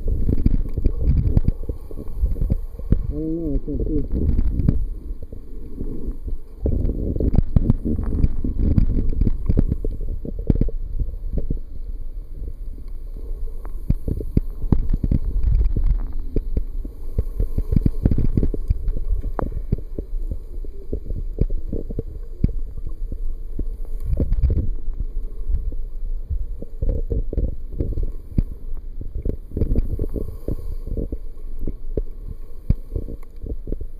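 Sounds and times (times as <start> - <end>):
underwater clicks and crackles: 0.0 - 33.9
underwater water rumble: 0.0 - 33.9.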